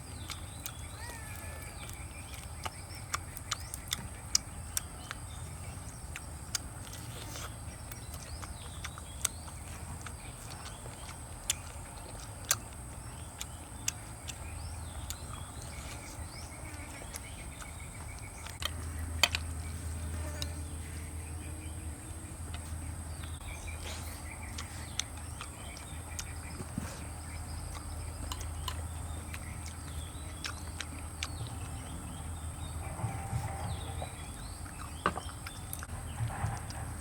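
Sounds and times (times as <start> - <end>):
low hum: 1.9 - 37.0.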